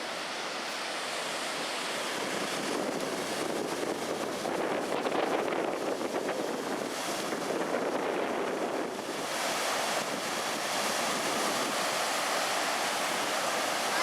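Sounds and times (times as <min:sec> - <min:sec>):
river rushing: 0:00.0 - 0:14.0
wind buffeting microphone: 0:00.0 - 0:14.0.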